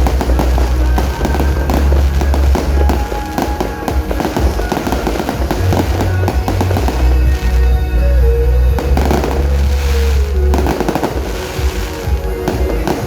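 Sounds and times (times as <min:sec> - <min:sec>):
fireworks crackling and popping: 0:00.0 - 0:13.0
music with heavy bass: 0:00.0 - 0:13.0.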